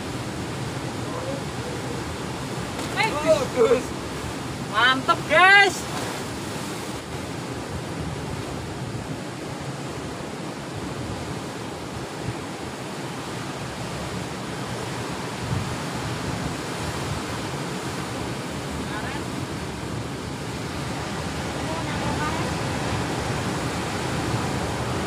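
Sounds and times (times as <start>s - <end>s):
waves breaking on rocky shore: 0.0s - 25.0s.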